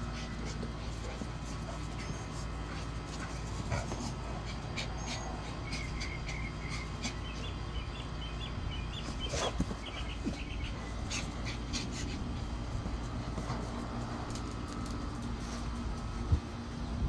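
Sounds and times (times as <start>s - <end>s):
small birds chirping: 0.0s - 13.8s
dogs play-wrestling on grass: 0.0s - 17.0s
steady low rumble: 0.0s - 17.0s.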